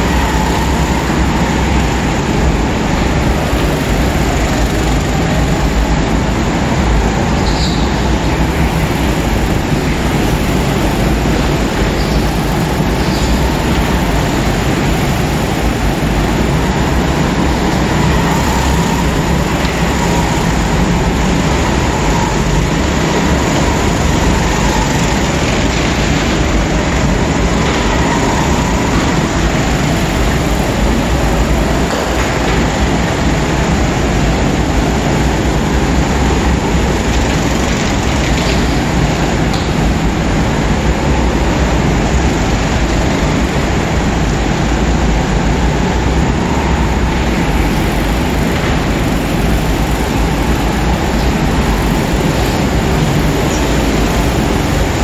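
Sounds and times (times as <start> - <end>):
go-kart engines: 0.0 - 55.0.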